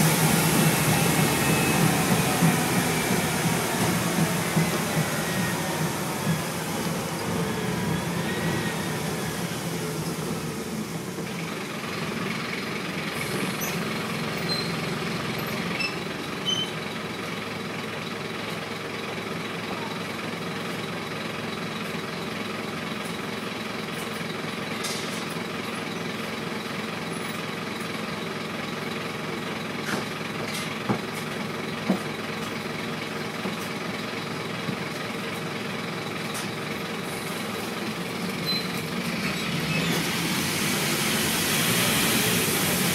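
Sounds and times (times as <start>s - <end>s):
bus diesel engine drone: 0.0s - 42.9s
road rumble: 0.0s - 42.9s.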